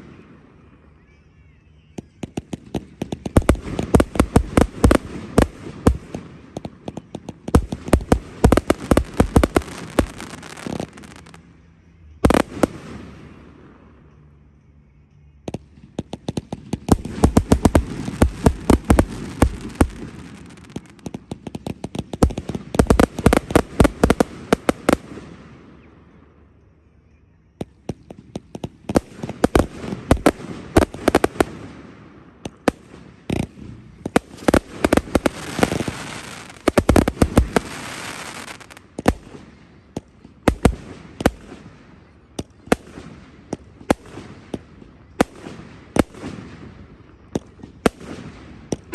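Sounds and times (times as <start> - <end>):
fireworks bangs and crackling: 1.9 - 11.5, 12.2 - 13.6, 15.4 - 26.0, 27.6 - 48.9.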